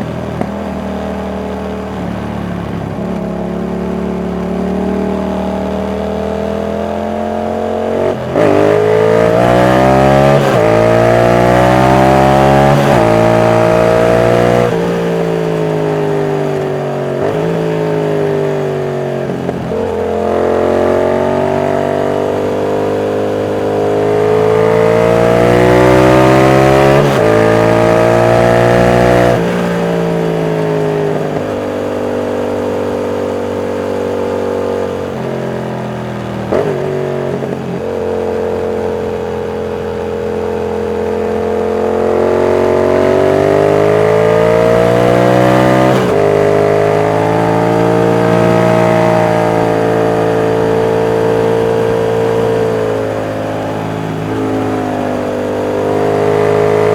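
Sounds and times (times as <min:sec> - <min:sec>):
motorcycle engine revving through gears: 0:00.0 - 0:56.9.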